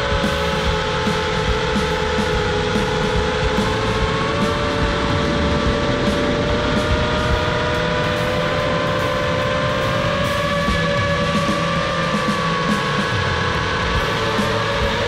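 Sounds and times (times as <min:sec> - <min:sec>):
drone motors whining: 0:00.0 - 0:15.0
rushing air rumble: 0:02.3 - 0:15.0.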